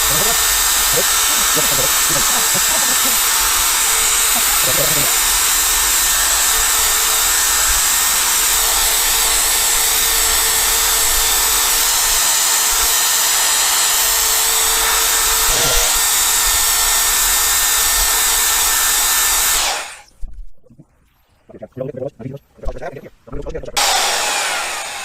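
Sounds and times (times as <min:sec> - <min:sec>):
electric drill running: 0:00.0 - 0:20.1, 0:23.8 - 0:25.0.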